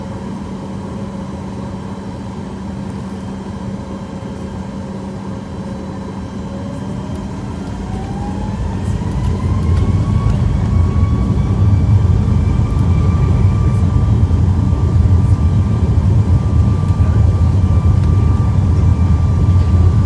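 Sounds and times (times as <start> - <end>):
jet engines running: 0.0 - 20.0
jet engine whine rising: 2.0 - 20.0.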